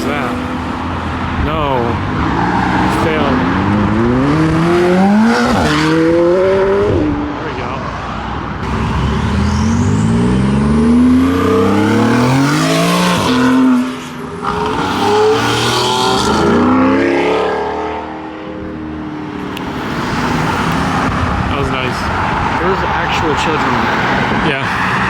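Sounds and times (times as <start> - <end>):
car engine accelerating: 0.0 - 7.7, 8.5 - 25.0.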